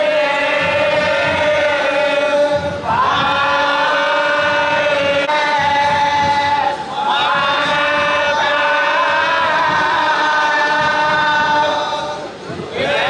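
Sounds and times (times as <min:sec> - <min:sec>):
devotional chanting: 0:00.0 - 0:13.0.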